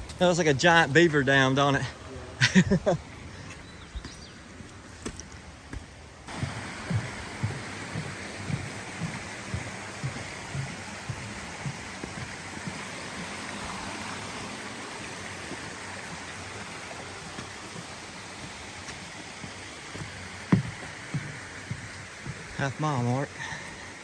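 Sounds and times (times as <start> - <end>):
footsteps on trail: 0.0 - 1.4, 2.6 - 24.0
creek water rushing: 0.0 - 3.6, 4.3 - 24.0.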